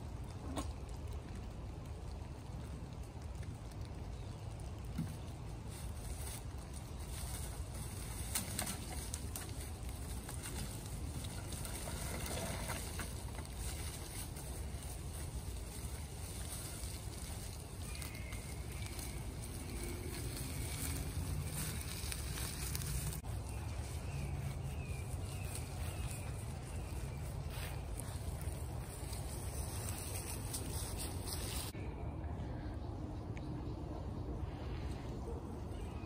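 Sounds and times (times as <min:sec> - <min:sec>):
dry leaves crackling underfoot: 0:00.0 - 0:31.8
steady low rumble: 0:00.0 - 0:36.0.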